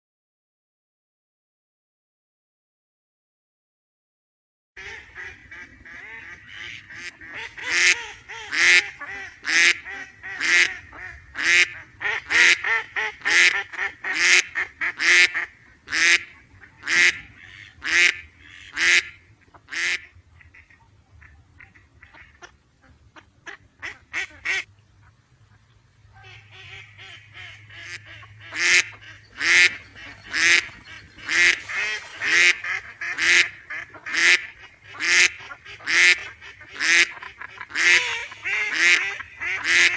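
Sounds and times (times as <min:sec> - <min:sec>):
duck quacking: 0:04.8 - 0:39.9.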